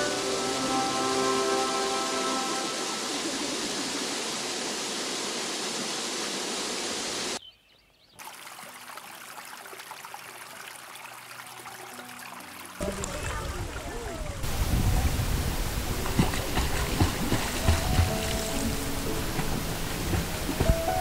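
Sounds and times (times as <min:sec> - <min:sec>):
rushing water: 0:00.0 - 0:07.4, 0:08.2 - 0:21.0.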